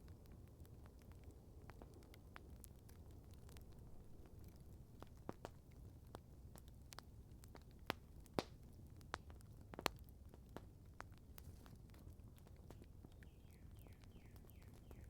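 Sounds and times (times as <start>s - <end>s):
campfire popping and snapping: 0.0s - 15.0s.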